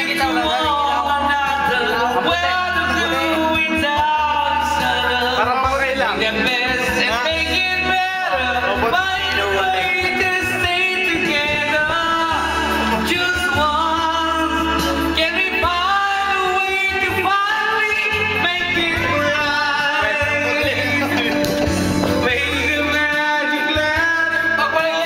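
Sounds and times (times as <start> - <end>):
backing track music: 0.0 - 25.0
man singing karaoke: 0.0 - 25.0.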